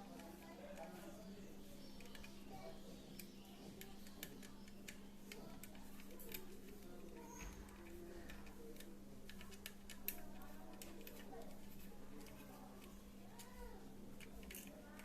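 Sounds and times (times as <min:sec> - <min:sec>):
small clicks of laptop parts: 0:01.8 - 0:15.0.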